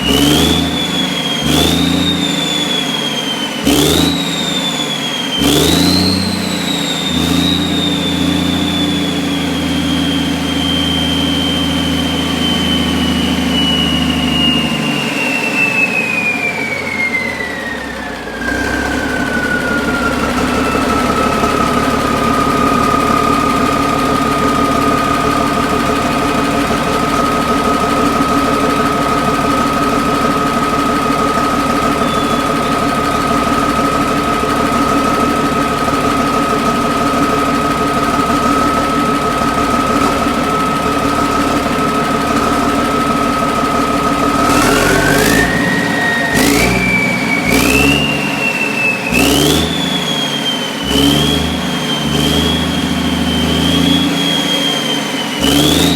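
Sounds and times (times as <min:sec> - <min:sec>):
diesel engine with high whine: 0:00.0 - 0:55.9.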